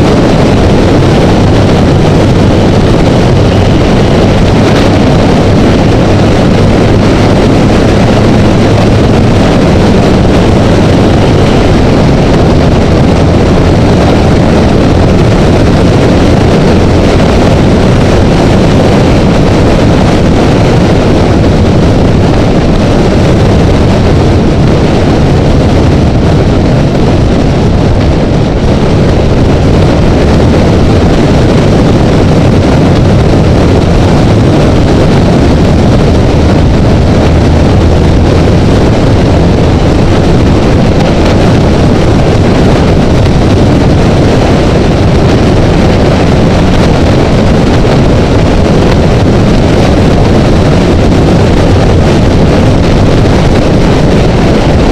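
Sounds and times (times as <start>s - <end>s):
low motorcycle engine hum: 0.0s - 54.9s
wind and road noise: 0.0s - 54.9s.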